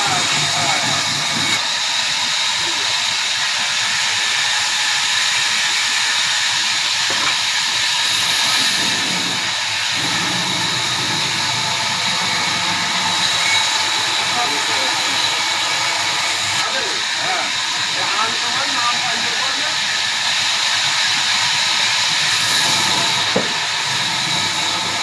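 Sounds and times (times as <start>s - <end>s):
sawmill saw cutting log: 0.0s - 25.0s.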